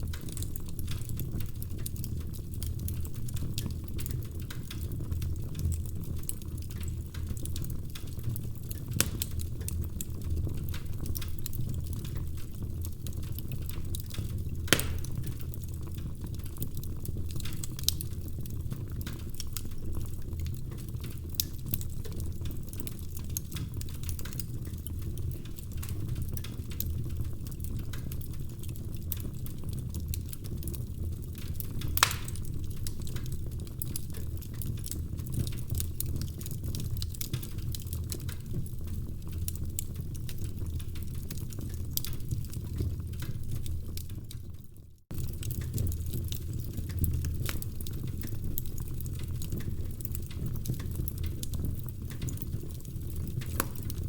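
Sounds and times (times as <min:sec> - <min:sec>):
burning logs popping: 0:00.0 - 0:54.0
fire crackling: 0:00.0 - 0:54.0
flames rumbling: 0:00.0 - 0:54.0.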